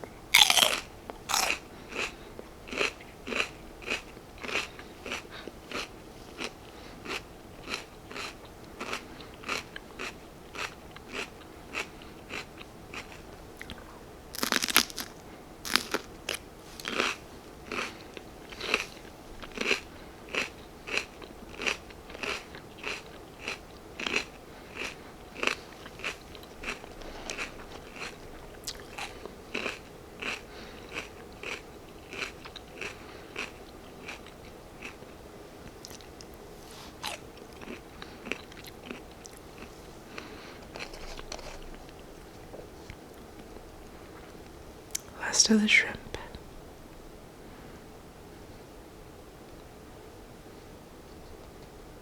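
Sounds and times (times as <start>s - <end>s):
chewing crunchy food: 0.3s - 45.1s.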